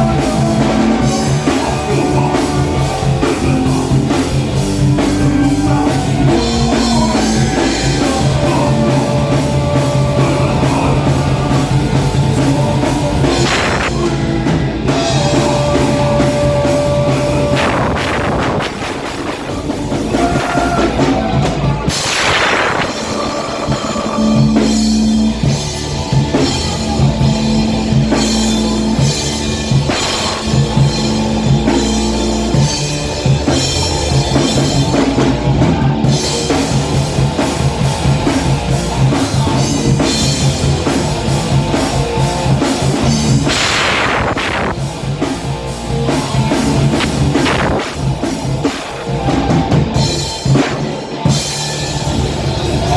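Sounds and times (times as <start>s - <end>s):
distorted guitar riff: 0.0s - 52.9s
fast bass drum strokes: 0.0s - 52.9s
heavy metal band playing: 0.0s - 52.9s.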